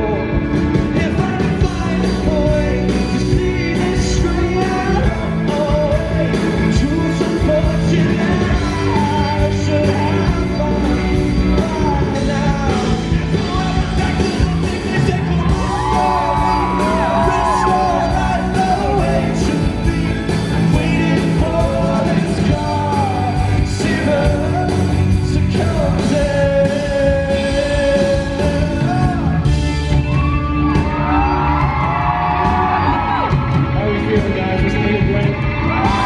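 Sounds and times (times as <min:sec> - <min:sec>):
crowd yelling: 0:00.0 - 0:36.0
person singing: 0:00.0 - 0:36.0
pop rock band playing: 0:00.0 - 0:36.0.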